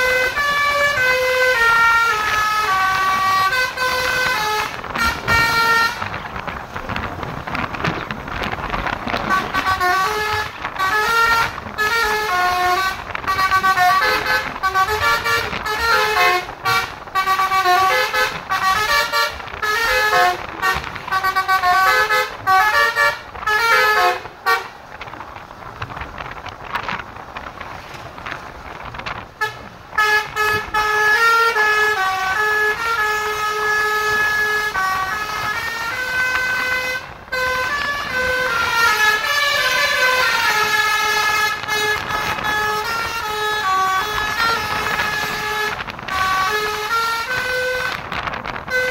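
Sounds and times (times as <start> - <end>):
musical air horn playing a tune: 0.0 - 6.2, 9.2 - 24.8, 29.4 - 48.9.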